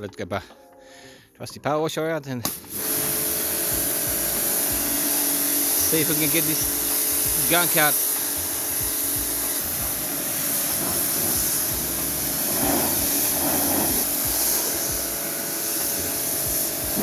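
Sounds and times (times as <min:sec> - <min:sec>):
pump motor humming: 0:02.5 - 0:17.0
spray jet hissing on carpet: 0:02.5 - 0:17.0.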